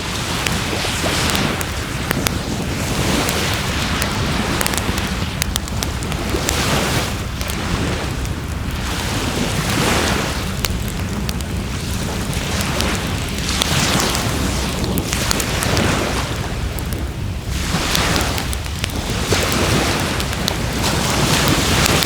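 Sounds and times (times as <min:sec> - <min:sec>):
waves washing up shore: 0:00.0 - 0:22.0
wood fire crackling: 0:00.0 - 0:22.0.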